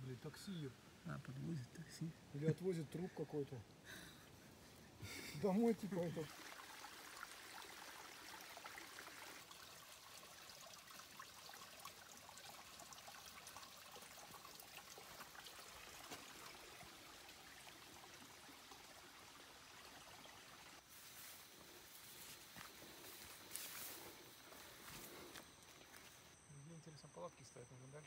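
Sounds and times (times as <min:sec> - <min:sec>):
faint stream trickling: 0:00.0 - 0:28.0.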